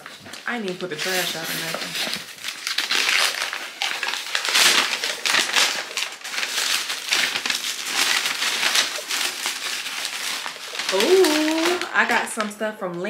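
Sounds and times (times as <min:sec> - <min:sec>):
paper wrapping crinkling: 0:00.0 - 0:13.0.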